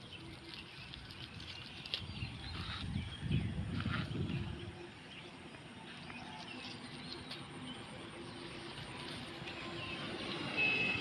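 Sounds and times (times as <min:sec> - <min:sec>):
low hum of distant engines: 0:00.0 - 0:11.0
small birds chirping: 0:00.0 - 0:11.0.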